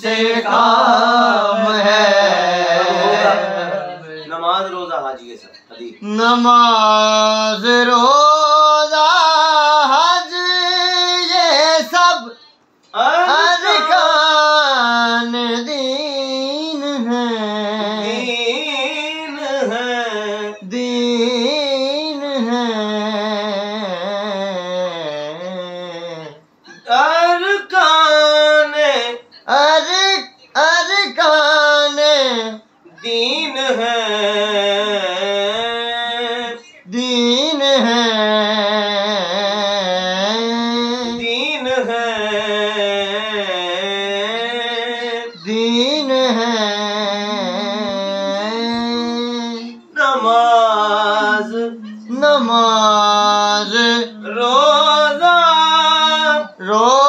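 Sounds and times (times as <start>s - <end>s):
man singing unaccompanied: 0.0s - 4.8s, 6.0s - 57.0s.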